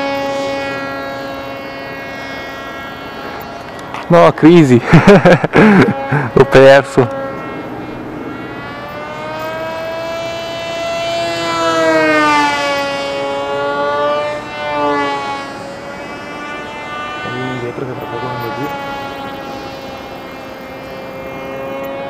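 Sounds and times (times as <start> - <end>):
model aircraft motor whining: 0.0 - 22.0.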